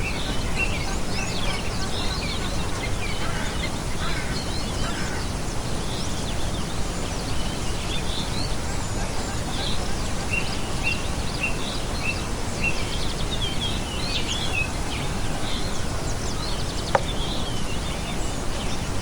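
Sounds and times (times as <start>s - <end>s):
small birds chirping: 0.0s - 19.0s
steady outdoor noise: 0.0s - 19.0s.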